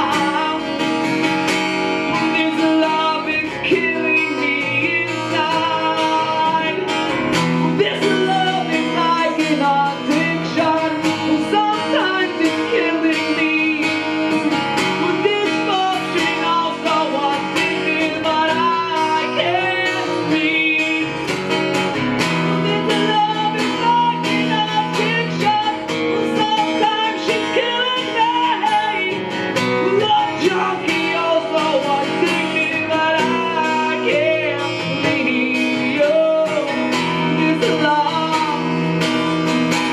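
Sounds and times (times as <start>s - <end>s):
acoustic guitar strumming: 0.0s - 39.9s
man singing: 0.0s - 39.9s.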